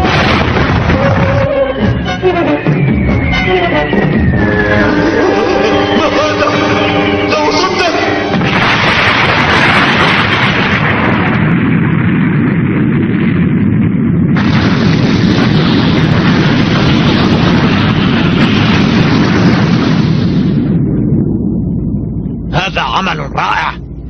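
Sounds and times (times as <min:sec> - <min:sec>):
bright blast: 0:00.0 - 0:24.0
cartoon spaceship explosion rumble: 0:00.0 - 0:24.0.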